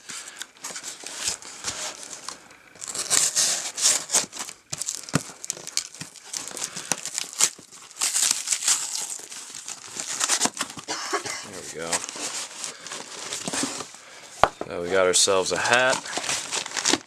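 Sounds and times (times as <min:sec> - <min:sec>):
package wrapping crinkling: 0:00.0 - 0:14.6, 0:15.3 - 0:17.0.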